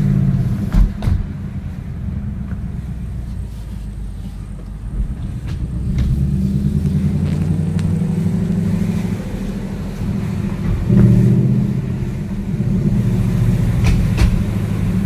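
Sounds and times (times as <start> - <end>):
car exhaust rumbling: 0.0 - 15.0.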